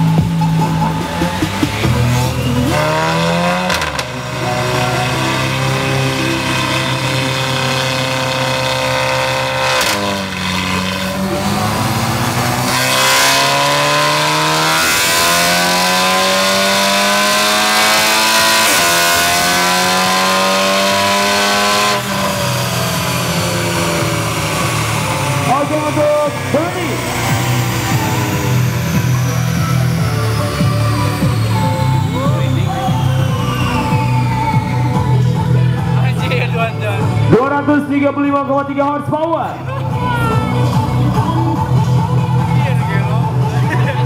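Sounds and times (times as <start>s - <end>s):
car engine on a dyno: 0.0s - 44.0s.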